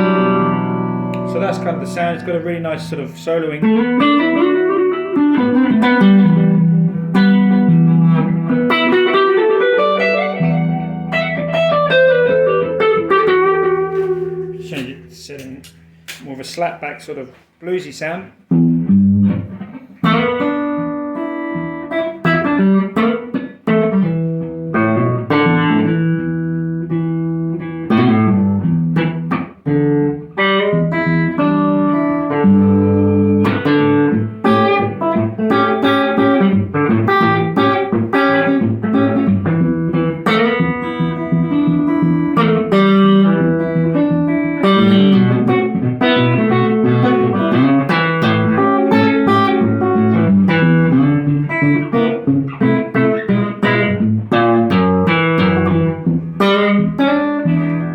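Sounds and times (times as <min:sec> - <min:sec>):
electric guitar with echo: 0:00.0 - 0:16.3, 0:17.8 - 0:57.9.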